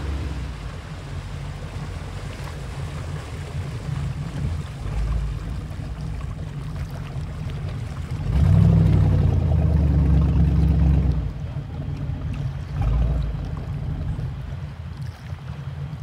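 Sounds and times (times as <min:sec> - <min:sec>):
motorboat engine rumbling: 0:00.0 - 0:16.0.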